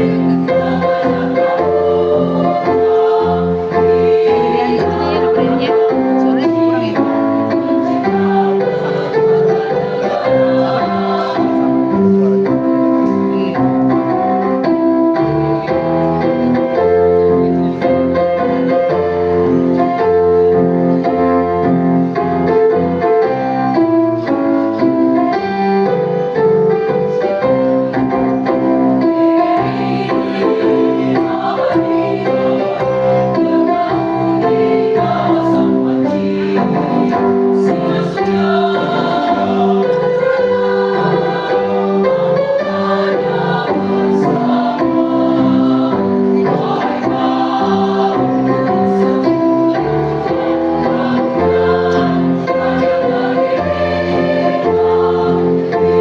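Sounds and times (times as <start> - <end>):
choir singing: 0.0 - 56.0
piano accompaniment: 0.0 - 56.0.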